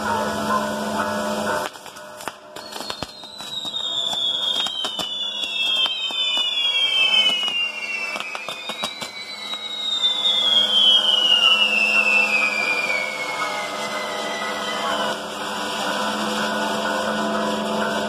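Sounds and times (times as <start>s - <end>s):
fireworks hissing: 0.0s - 18.0s
fireworks whistling down in pitch: 0.0s - 18.0s
fireworks crackling pops: 1.5s - 16.6s.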